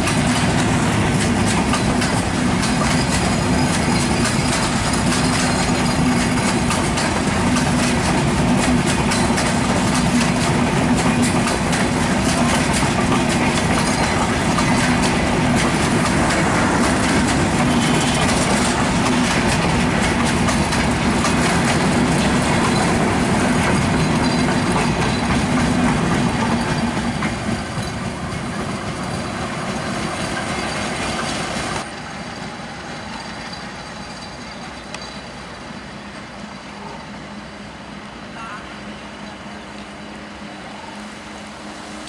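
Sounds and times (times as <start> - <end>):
train wheels clattering on rails: 0.0 - 37.4.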